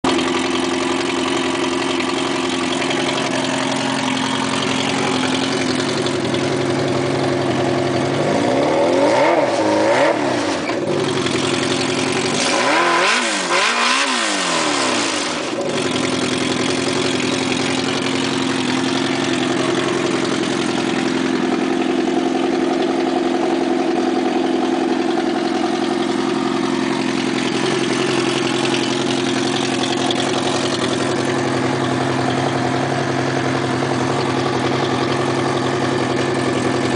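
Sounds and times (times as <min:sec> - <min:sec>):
snowmobile engine idling and revving: 0:00.0 - 0:36.9.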